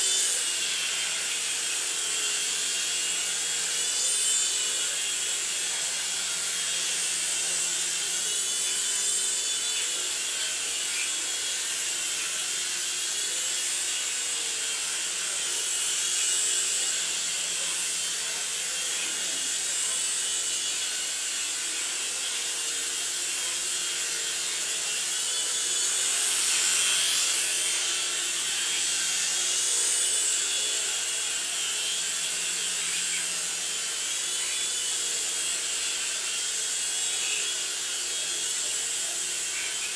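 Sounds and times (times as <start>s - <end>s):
toy helicopter rotor whir: 0.0s - 39.9s.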